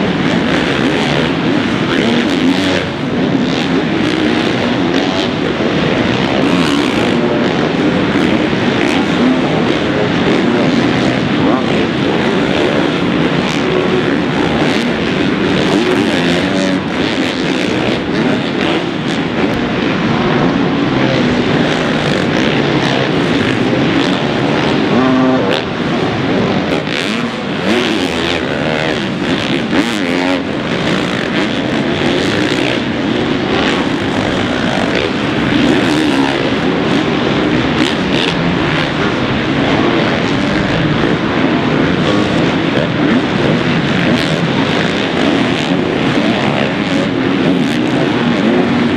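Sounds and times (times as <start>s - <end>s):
motocross bike engines revving: 0.0s - 48.9s.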